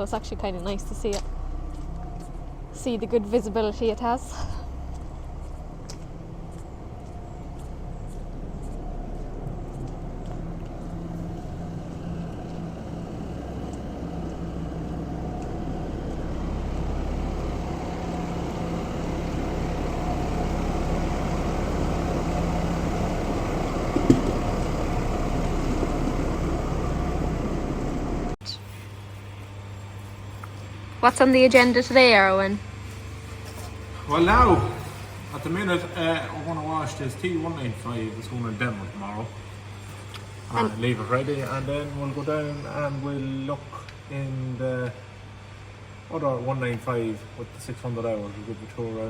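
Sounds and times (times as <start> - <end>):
tractor engine running: 0.0 - 43.4.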